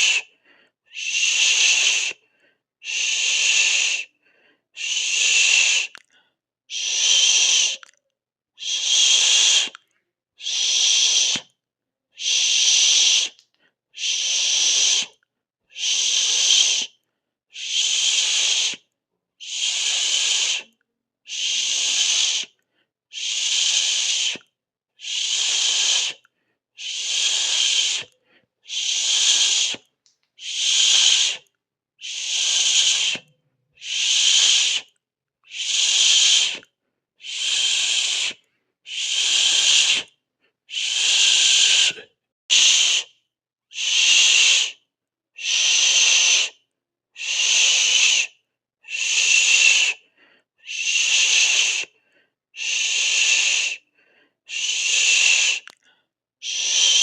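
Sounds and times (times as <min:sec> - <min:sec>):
person hissing through teeth: 0:00.0 - 0:00.3, 0:00.9 - 0:02.2, 0:02.8 - 0:04.1, 0:04.8 - 0:06.0, 0:06.7 - 0:07.9, 0:08.6 - 0:09.8, 0:10.4 - 0:11.5, 0:12.2 - 0:13.4, 0:14.0 - 0:17.0, 0:17.6 - 0:44.8, 0:45.4 - 0:46.6, 0:47.2 - 0:50.0, 0:50.6 - 0:52.0, 0:52.6 - 0:53.8, 0:54.5 - 0:55.8, 0:56.4 - 0:57.0.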